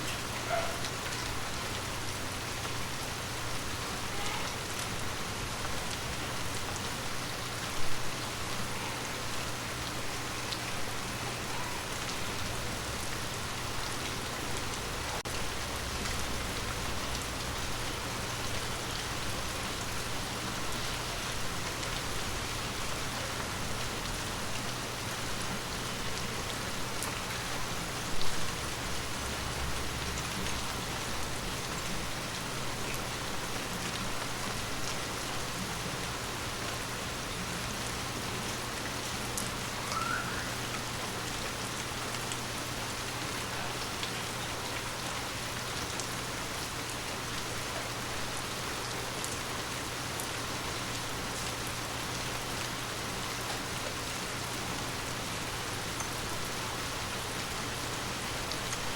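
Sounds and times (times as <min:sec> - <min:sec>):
rain on leaves: 0:00.0 - 0:58.9.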